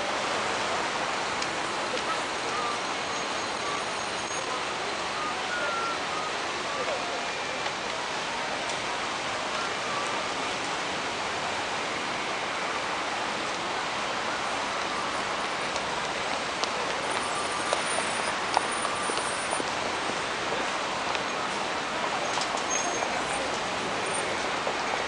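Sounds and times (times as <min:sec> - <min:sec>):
cars passing by: 0:00.0 - 0:25.0
street traffic hiss and rumble: 0:00.0 - 0:25.0.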